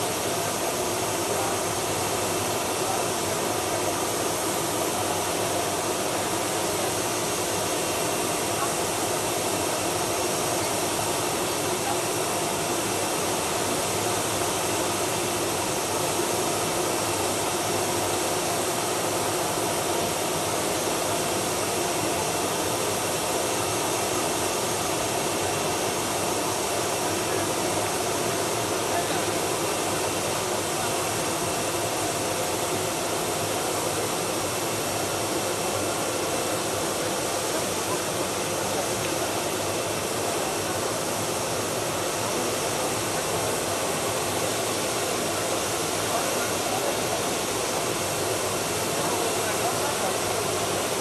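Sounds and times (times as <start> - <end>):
jet engines idling: 0.0 - 51.0.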